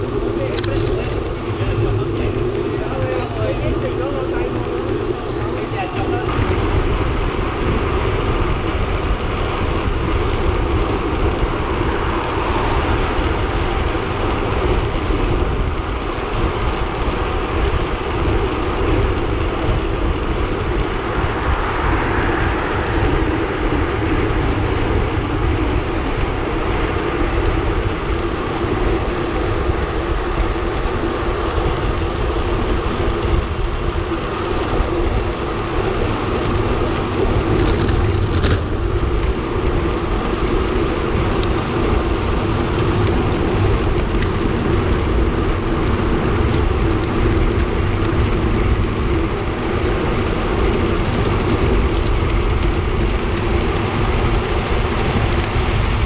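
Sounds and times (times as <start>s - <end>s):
tyre and road noise: 0.0s - 56.0s
wind rushing over microphone: 0.0s - 56.0s.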